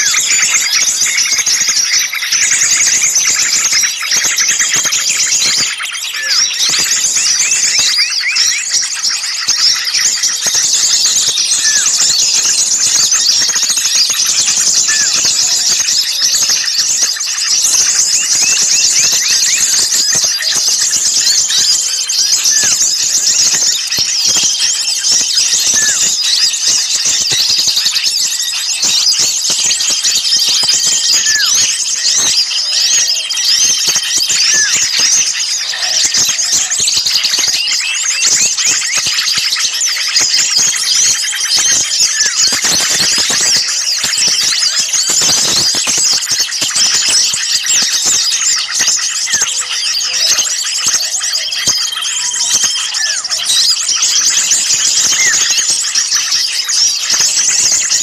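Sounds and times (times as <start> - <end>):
small songbirds chattering: 0.0 - 58.0.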